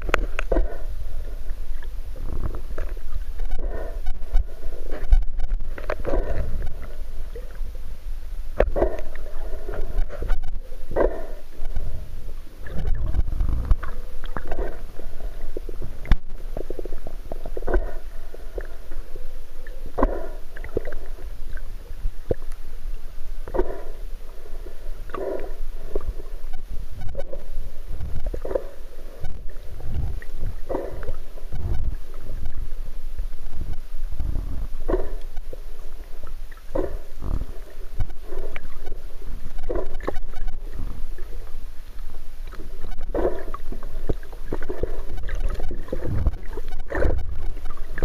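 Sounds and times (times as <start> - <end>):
underwater water swishes: 0.0 - 48.0.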